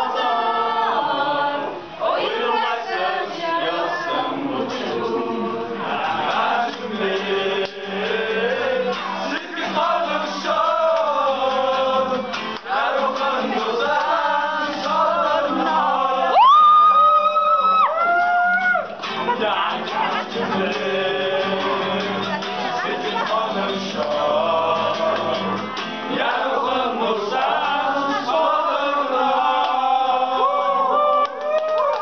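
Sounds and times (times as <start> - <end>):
group singing together: 0.0 - 16.6, 18.8 - 31.2.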